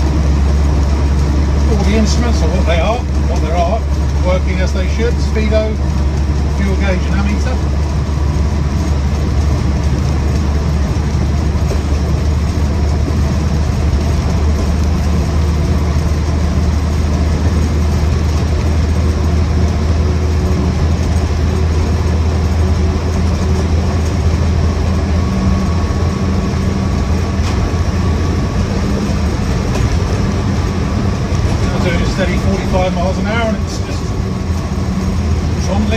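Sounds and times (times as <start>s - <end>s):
car engine droning: 0.0s - 35.9s
drivetrain and road noise: 0.0s - 35.9s.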